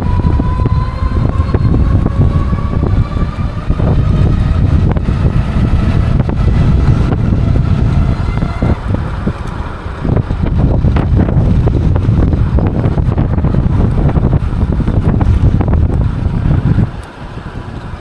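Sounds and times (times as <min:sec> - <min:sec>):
electric motor whine: 0:00.0 - 0:18.0
wind buffeting microphone: 0:00.0 - 0:18.0.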